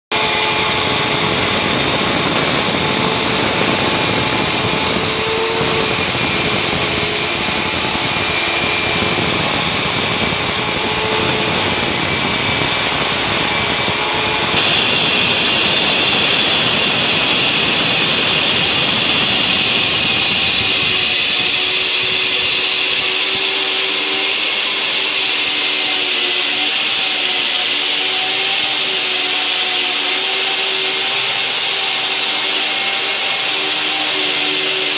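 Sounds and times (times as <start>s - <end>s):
core drill grinding concrete: 0.0s - 34.9s.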